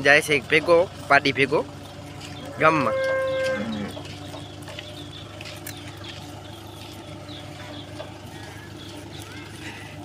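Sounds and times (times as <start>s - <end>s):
small birds chirping: 0.0s - 10.0s
tractor engine running: 0.0s - 10.0s.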